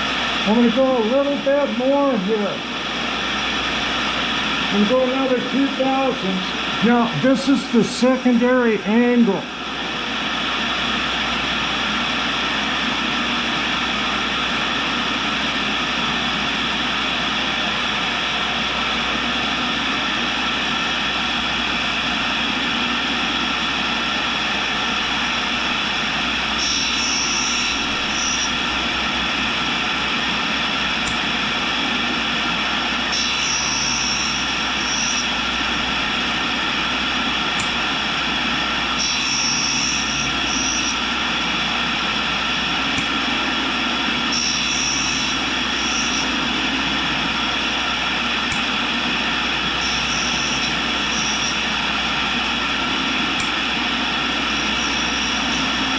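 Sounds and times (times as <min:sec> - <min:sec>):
grinder running: 0:00.0 - 0:13.2, 0:21.9 - 0:55.9
high-pitched grinding whine: 0:00.0 - 0:55.9.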